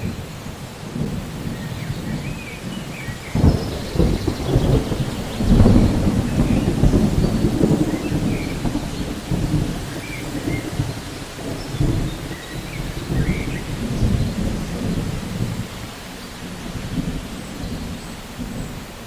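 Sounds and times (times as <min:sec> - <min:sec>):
rolling thunder: 0:00.0 - 0:19.0
steady rain: 0:00.0 - 0:19.0.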